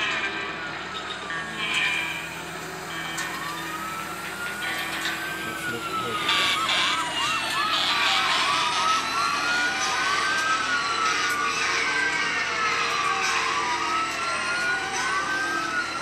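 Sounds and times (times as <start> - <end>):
simulated siren wailing: 0.0 - 16.0
steady machine hum: 0.0 - 16.0.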